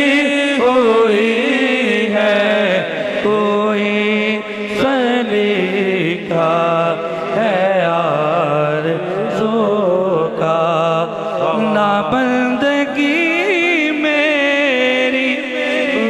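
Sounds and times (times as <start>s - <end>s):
man singing through pa system: 0.0s - 16.0s.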